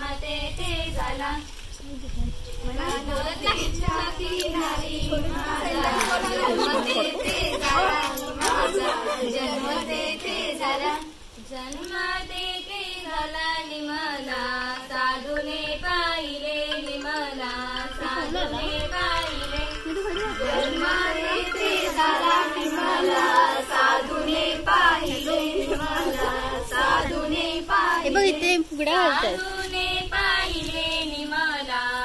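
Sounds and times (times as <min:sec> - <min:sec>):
women and girls singing: 0:00.0 - 0:32.0.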